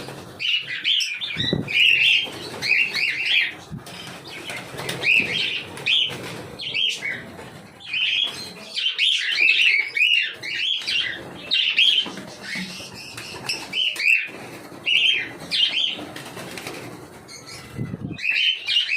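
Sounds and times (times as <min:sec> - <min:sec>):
wings fluttering: 0:00.0 - 0:18.9.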